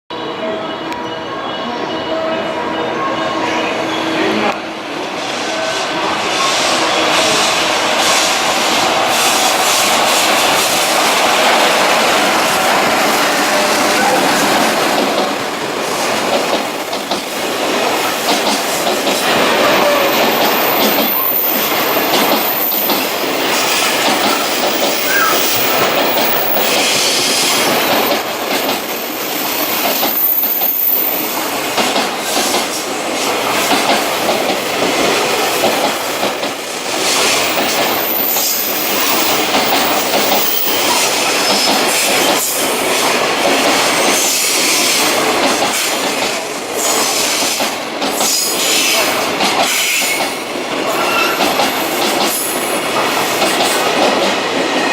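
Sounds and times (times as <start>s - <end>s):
freight train wagons rolling: 7.2s - 54.9s.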